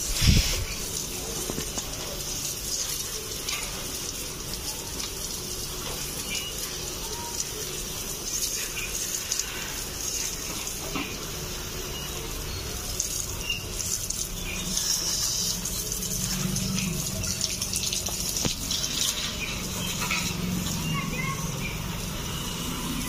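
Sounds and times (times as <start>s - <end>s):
shower water spraying and spattering: 0.0s - 23.0s.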